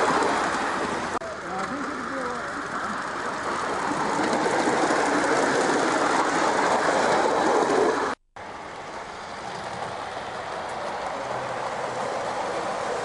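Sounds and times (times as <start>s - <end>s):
miniature steam locomotive rattling: 0.0s - 13.0s.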